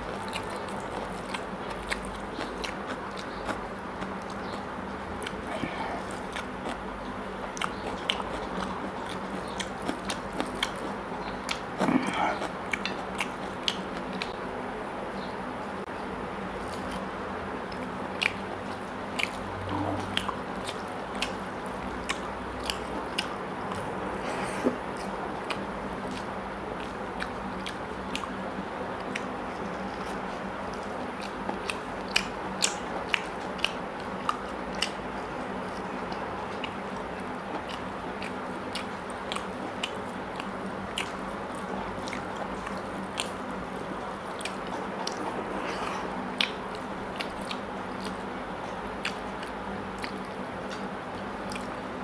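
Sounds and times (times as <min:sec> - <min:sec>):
person chewing and smacking wetly: 0:00.0 - 0:14.5, 0:16.0 - 0:52.0.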